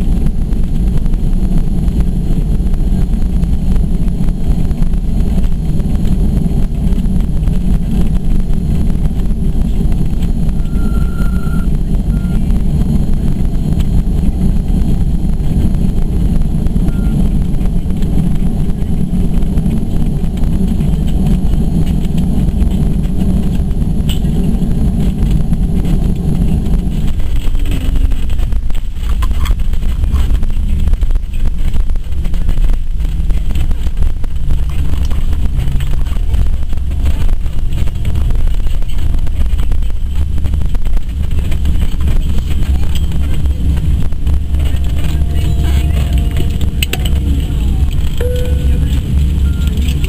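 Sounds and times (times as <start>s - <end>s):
jet engines rumbling in cabin: 0.0s - 50.0s.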